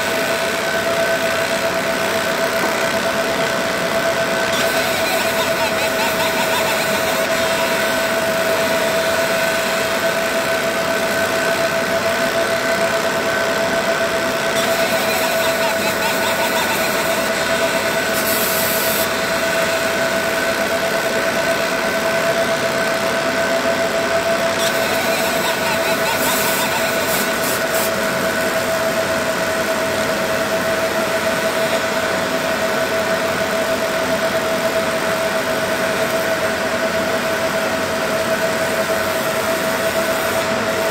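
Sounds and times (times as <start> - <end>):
laser engraver humming and whining: 0.0 - 40.9.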